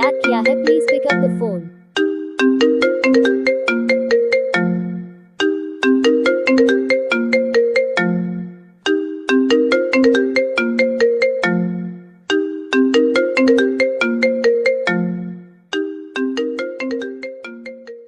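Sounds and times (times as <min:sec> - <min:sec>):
mobile phone ringtone melody: 0:00.0 - 0:18.0.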